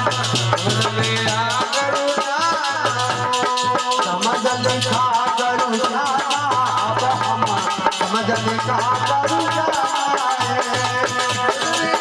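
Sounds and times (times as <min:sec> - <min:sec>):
rattling percussion beat: 0:00.0 - 0:12.0.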